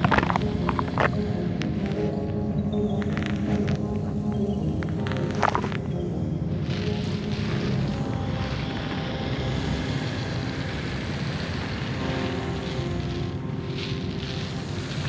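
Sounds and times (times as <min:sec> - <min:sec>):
faint hiss: 0:00.0 - 0:15.0
low droning rumble: 0:00.0 - 0:15.0.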